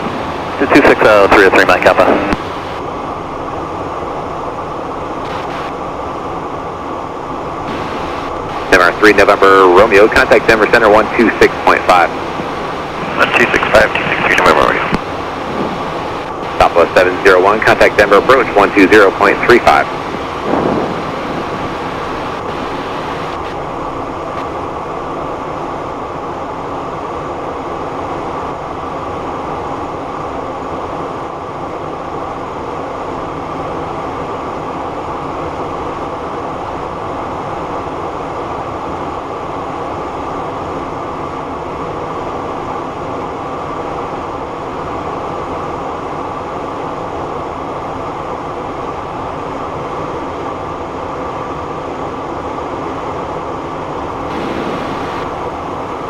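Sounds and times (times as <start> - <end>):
jet cockpit airflow and engine noise: 0.0 - 56.0.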